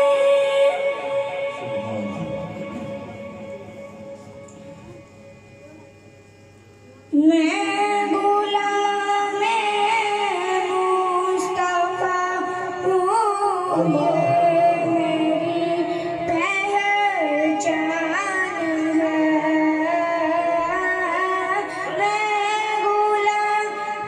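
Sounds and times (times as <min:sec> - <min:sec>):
boy singing over pa system: 0:00.0 - 0:05.6, 0:07.1 - 0:24.0.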